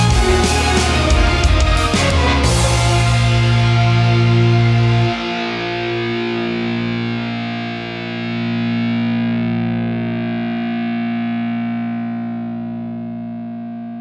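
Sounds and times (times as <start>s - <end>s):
song's final chord held: 0.0s - 12.8s.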